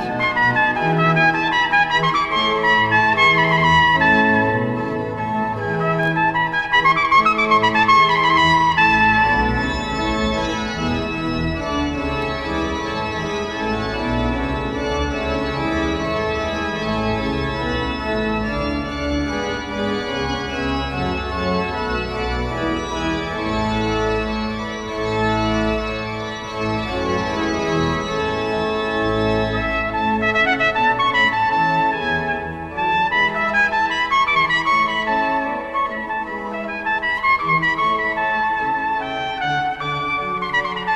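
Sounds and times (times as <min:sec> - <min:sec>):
pipe organ sustained chords: 0:00.0 - 0:40.9.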